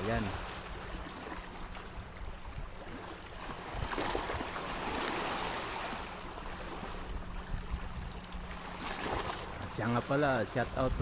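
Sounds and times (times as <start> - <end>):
sea washing against shore: 0.0 - 11.0.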